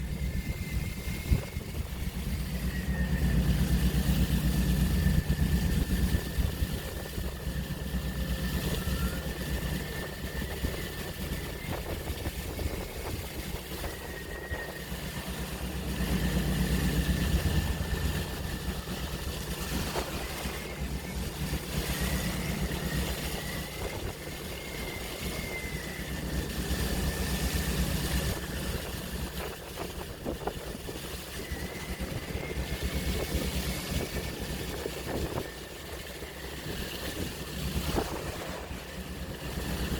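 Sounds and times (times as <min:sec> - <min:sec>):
sea waves rumbling: 0:00.0 - 0:39.9
thin high whine: 0:00.0 - 0:39.9.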